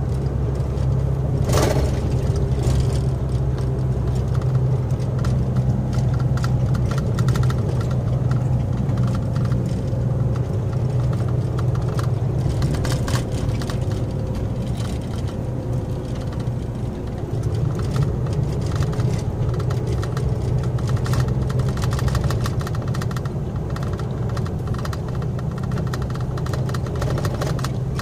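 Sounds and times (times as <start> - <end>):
cab rattling: 0.0 - 28.0
truck diesel engine hum: 0.0 - 28.0.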